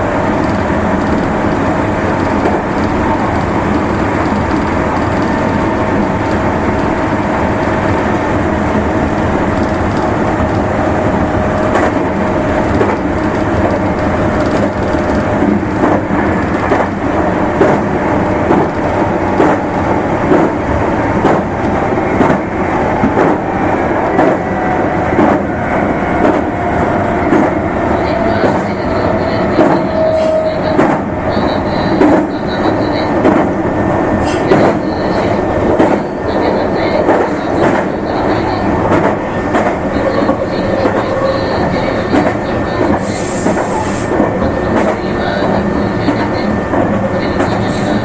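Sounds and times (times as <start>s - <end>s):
rail-joint clacks: 0.0s - 48.0s
train wheels rumbling on rail: 0.0s - 48.0s.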